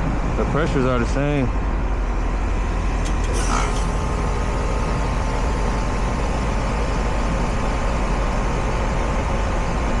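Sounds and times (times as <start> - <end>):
heat pump humming and whooshing: 0.0 - 10.0.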